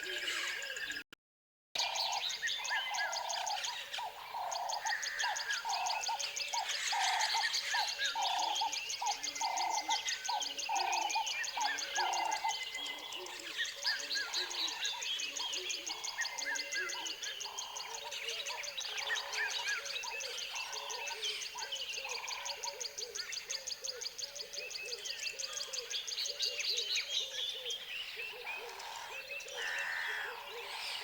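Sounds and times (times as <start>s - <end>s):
birds chirping and calling: 0.0s - 1.0s, 1.8s - 31.0s.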